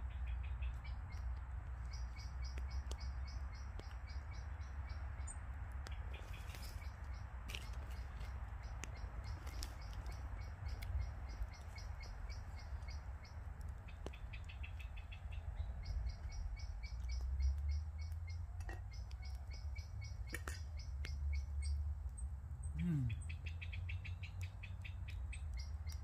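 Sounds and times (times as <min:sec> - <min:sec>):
small bird calling: 0:00.0 - 0:21.8, 0:22.6 - 0:26.0.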